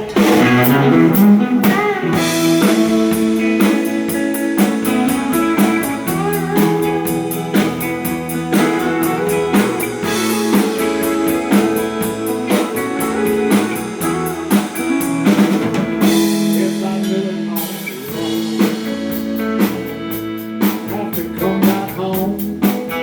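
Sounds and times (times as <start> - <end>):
drum kit steady beat: 0.0 - 23.0
guitars: 0.0 - 23.0.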